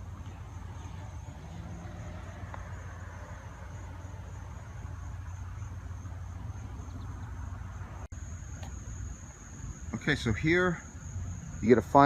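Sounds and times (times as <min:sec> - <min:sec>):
continuous low rumble: 0:00.0 - 0:12.0
high-pitched insect chorus: 0:00.0 - 0:12.0.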